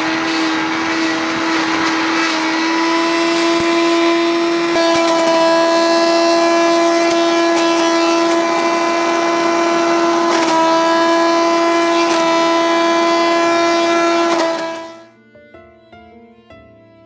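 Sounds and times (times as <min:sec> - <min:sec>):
shredder whining: 0:00.0 - 0:15.2.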